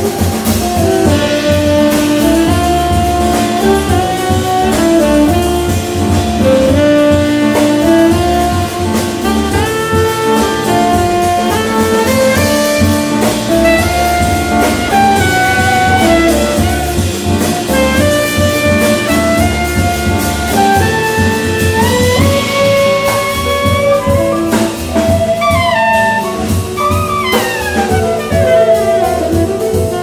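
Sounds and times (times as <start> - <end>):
double bass: 0.0 - 30.0
drums and cymbals: 0.0 - 30.0
piano: 0.0 - 30.0
saxophone: 0.0 - 30.0.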